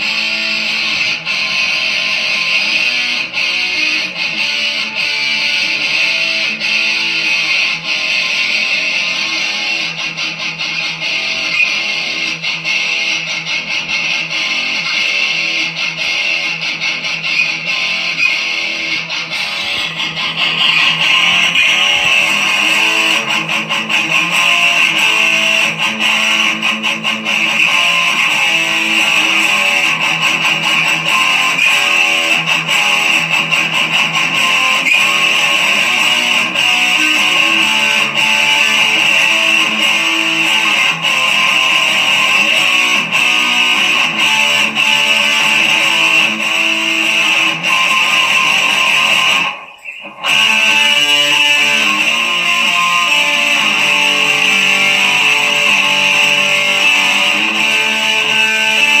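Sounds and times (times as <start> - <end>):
strummed electric guitar music: 0.0 - 59.0.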